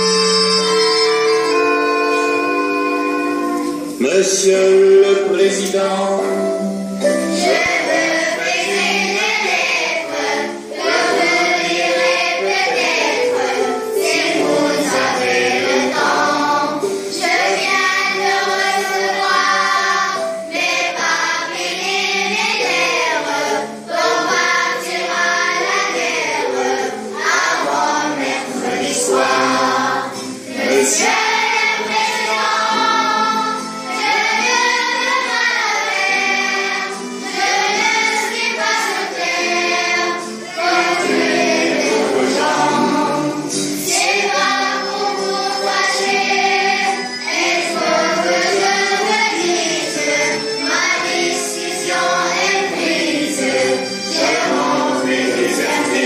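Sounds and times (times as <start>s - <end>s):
children singing in chorus: 7.0s - 56.0s.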